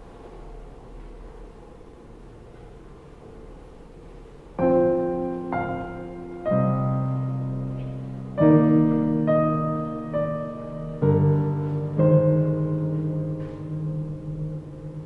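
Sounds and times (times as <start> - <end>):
faint steady hum: 0.0 - 15.0
slow piano chords: 2.5 - 15.0.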